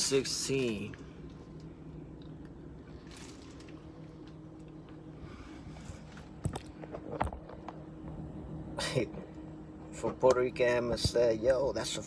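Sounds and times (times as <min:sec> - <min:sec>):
low hum inside van cab: 0:00.0 - 0:12.0.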